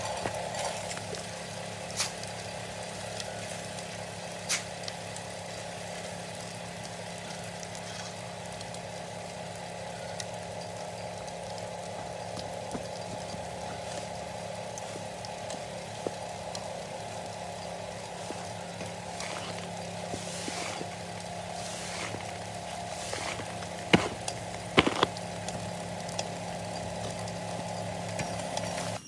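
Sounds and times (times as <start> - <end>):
washing machine motor running: 0.0 - 29.0.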